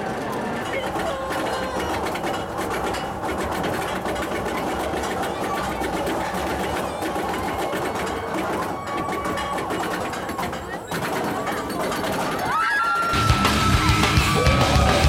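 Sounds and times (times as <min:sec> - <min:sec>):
lift chain ratchet clattering: 0:00.0 - 0:15.0.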